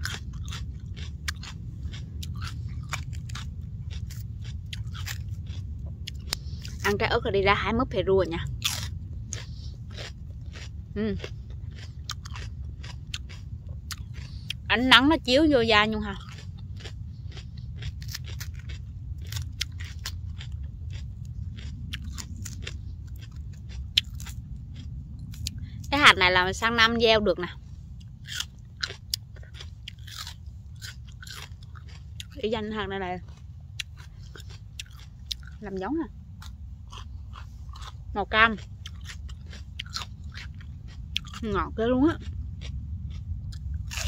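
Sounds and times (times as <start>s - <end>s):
person chewing crunchy pepper: 0.0s - 44.0s
steady low rumble: 0.0s - 44.0s.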